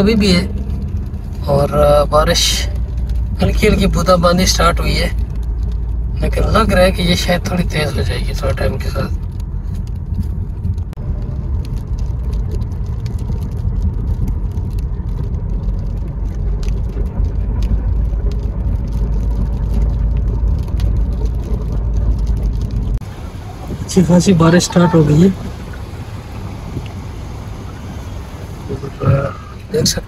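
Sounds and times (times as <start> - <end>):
raindrops ticking on windshield: 0.0 - 30.0
road and engine rumble: 0.0 - 30.0.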